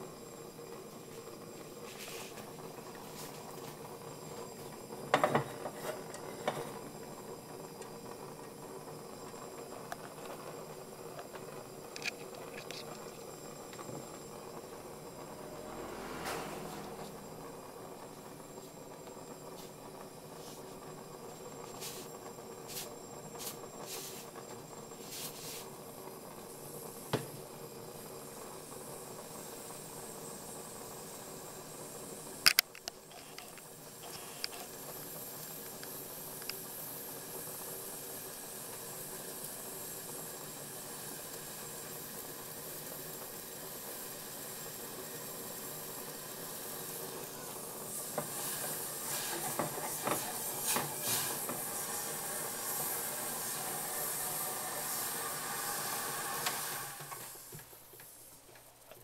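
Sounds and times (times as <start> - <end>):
gas burner hissing: 0.0 - 59.0.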